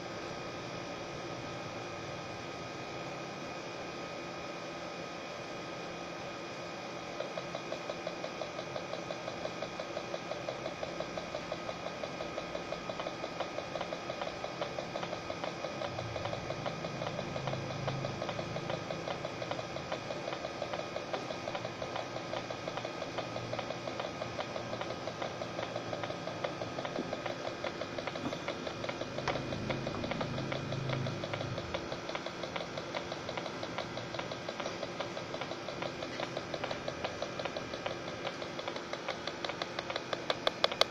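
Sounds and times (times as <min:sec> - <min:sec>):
refrigeration compressor humming: 0:00.0 - 0:40.9.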